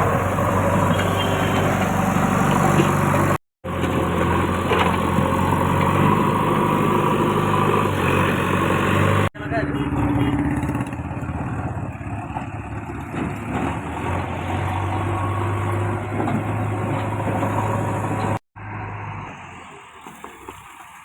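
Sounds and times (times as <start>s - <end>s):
quieter engine running: 0.0s - 19.0s
diesel engine droning: 0.0s - 20.8s.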